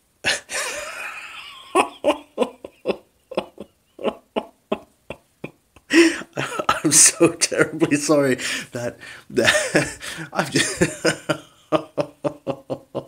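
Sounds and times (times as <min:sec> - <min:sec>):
man laughing: 0:00.3 - 0:13.0.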